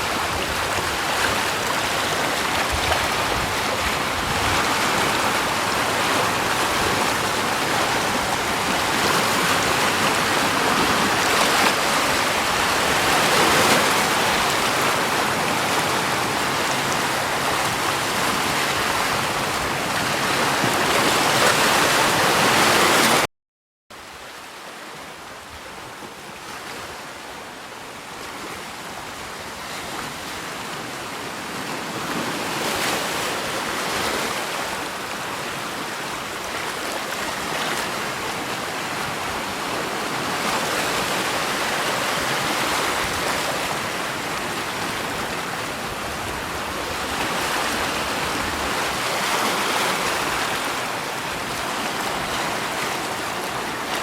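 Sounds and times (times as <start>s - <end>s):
rushing water: 0.0s - 23.3s, 24.0s - 54.0s.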